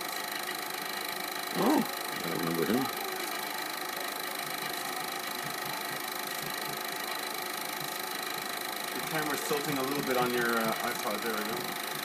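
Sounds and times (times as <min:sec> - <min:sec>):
film projector running: 0:00.0 - 0:12.0.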